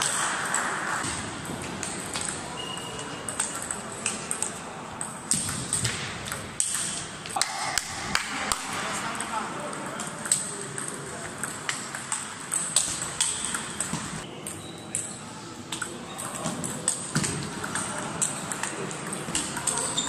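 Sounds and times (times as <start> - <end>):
background chatter: 1.1 - 20.0
table tennis ball clicking: 1.8 - 14.1, 15.8 - 20.0.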